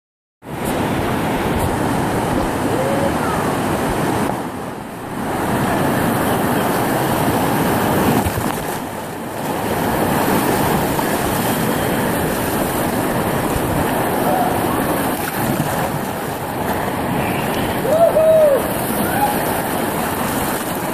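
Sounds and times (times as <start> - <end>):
river rapids rushing: 0.5 - 20.9.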